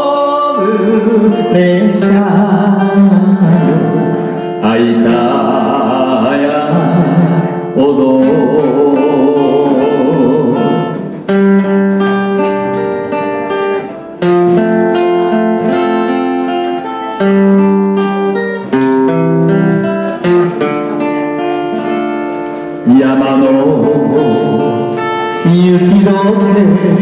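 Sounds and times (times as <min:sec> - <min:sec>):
guitar plucking and strumming: 0:00.0 - 0:27.0.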